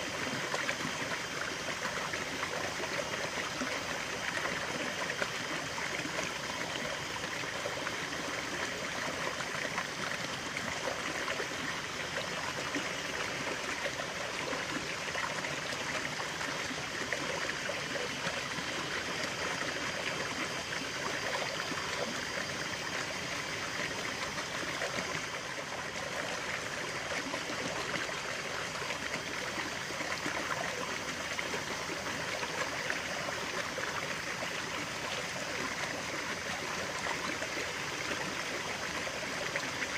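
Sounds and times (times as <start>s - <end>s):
stream water burbling: 0.0s - 39.9s.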